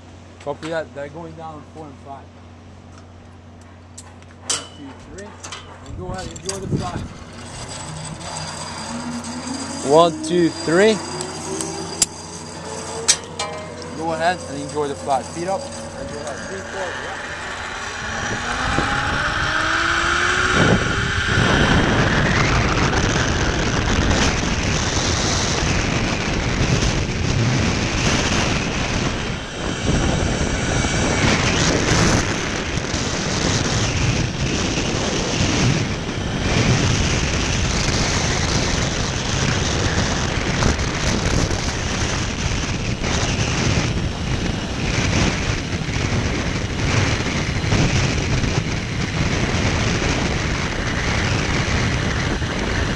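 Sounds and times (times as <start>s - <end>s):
zipline trolley whining on cable: 3.0s - 52.9s
wind rushing over microphone: 4.8s - 52.9s.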